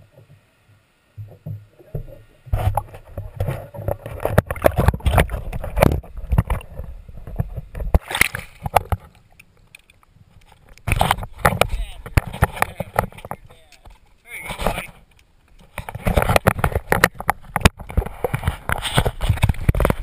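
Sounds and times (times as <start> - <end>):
muffled underwater water splashing: 0.0 - 20.0.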